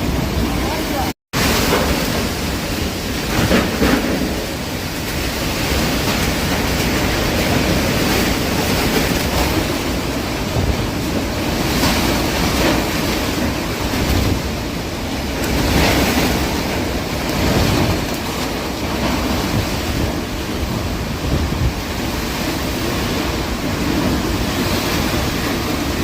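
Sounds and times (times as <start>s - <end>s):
strong wind gusts: 0.0s - 26.0s
wind buffeting microphone: 0.0s - 26.0s.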